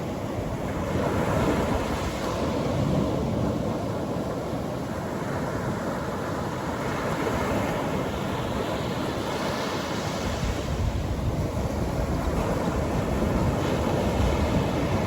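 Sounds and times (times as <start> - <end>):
surf waves breaking on beach: 0.0 - 15.0.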